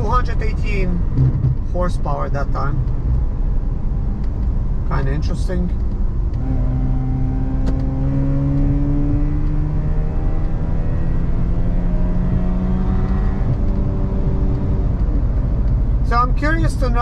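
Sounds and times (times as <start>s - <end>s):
rotary engine hum: 0.0s - 17.0s
tyre and road noise: 0.0s - 17.0s.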